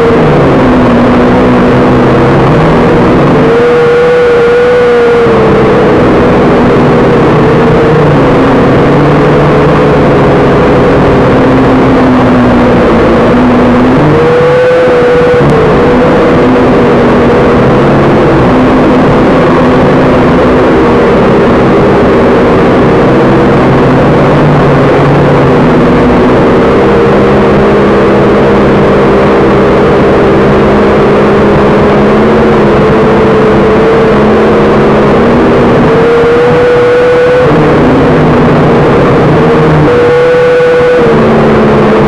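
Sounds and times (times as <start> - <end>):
rock music with distorted guitar: 0.0 - 42.0.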